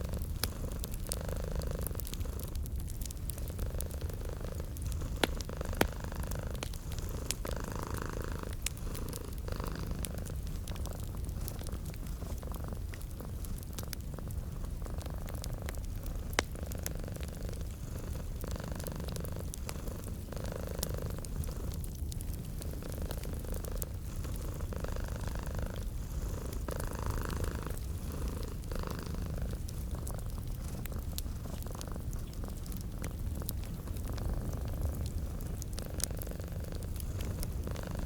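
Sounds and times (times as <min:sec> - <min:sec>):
cat purring: 0:00.0 - 0:38.0
wood fire crackling and popping: 0:00.0 - 0:38.0.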